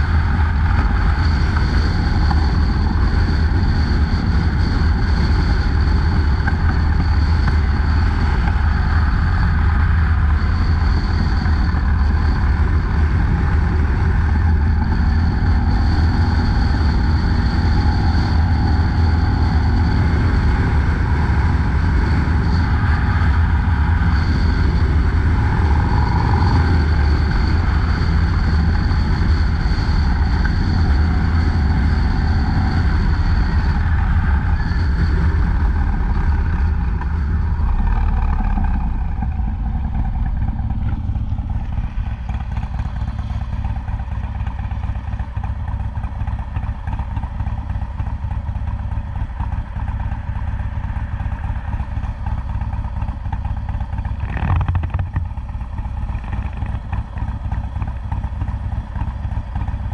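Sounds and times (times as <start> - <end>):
motorcycle engine running and idling: 0.0 - 59.9.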